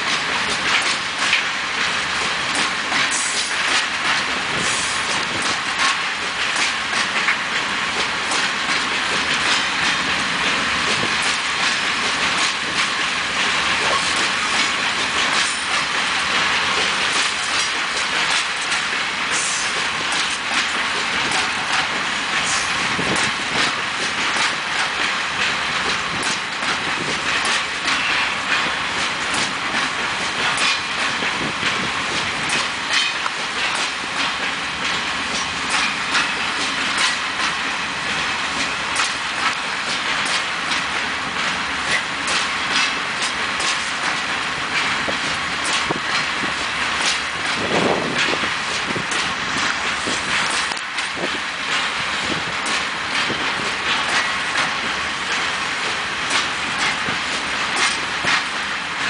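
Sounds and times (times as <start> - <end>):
wheel on rail hiss: 0.0 - 59.0
wheels clicking over rail joints: 0.0 - 59.0.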